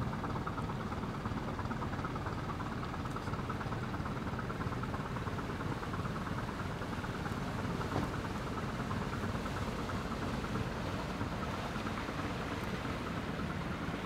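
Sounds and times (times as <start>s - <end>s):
propeller wash churning water: 0.0s - 14.0s
ship diesel engine running: 0.0s - 14.0s.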